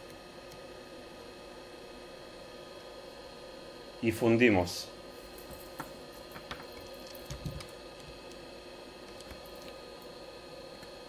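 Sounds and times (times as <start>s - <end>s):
electrical equipment hum: 0.0s - 11.0s.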